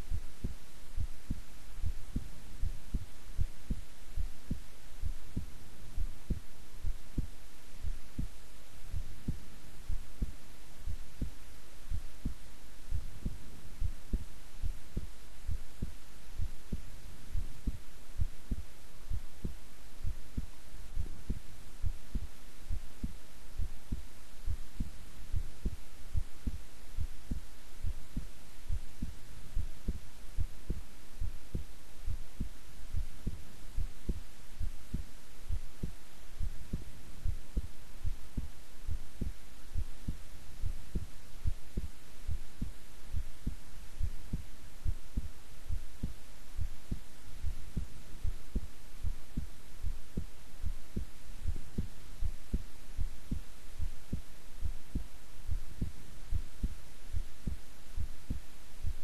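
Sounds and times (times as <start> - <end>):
faint steady hiss: 0.0 - 59.0
heartbeat thuds: 0.0 - 59.0.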